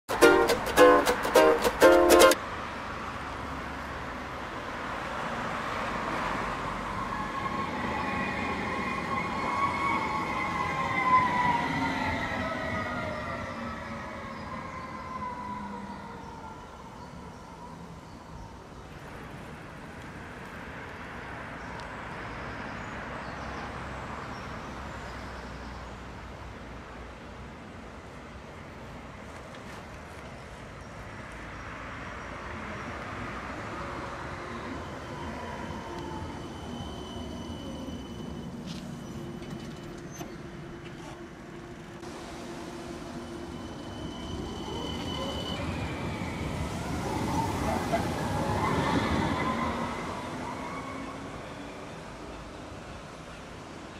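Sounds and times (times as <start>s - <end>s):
tram rolling on rails: 0.1s - 23.2s, 32.4s - 53.9s
faint whine of tram pulling away: 3.2s - 53.9s.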